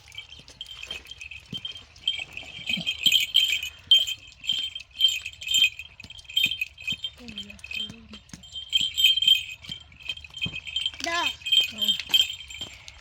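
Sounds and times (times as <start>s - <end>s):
small metal bells jingling: 0.0s - 13.0s.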